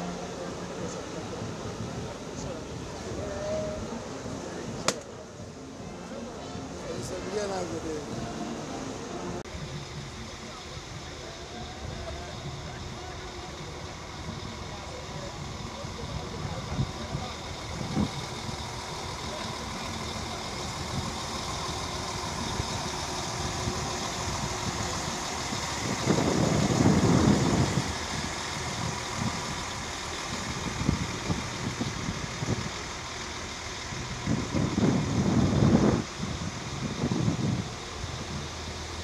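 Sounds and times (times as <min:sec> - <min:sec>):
diesel train rumble: 0:00.0 - 0:39.0.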